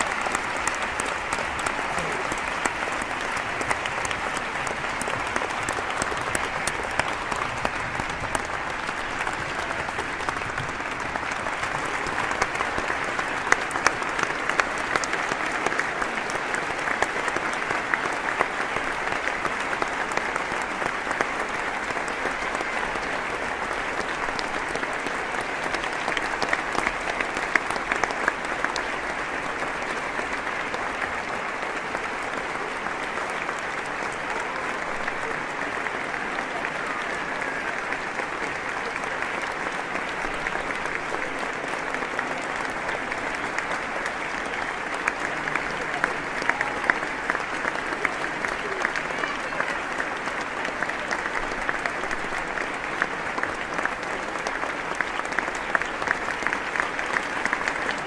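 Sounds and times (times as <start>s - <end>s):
crowd applauding: 0.0s - 58.0s.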